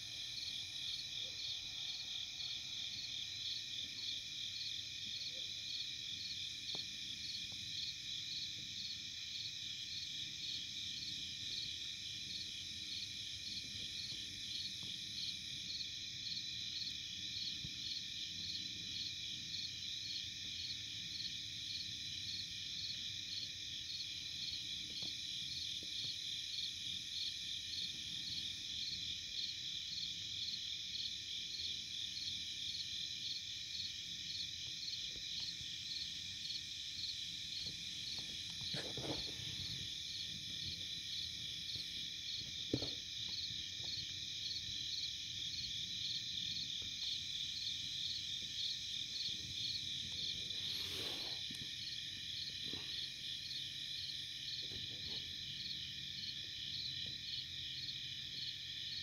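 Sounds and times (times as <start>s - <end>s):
crickets and katydids trilling: 0.0s - 59.0s.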